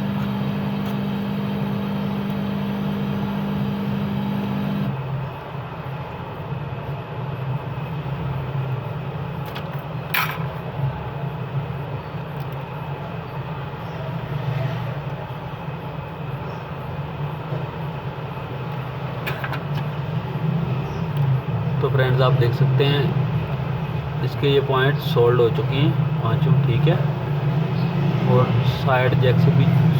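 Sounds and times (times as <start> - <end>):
low mechanical hum: 0.0 - 29.9.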